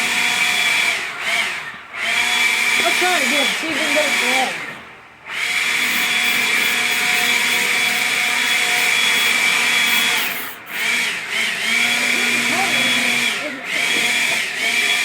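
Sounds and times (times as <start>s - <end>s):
small motor spinning: 0.0s - 15.0s.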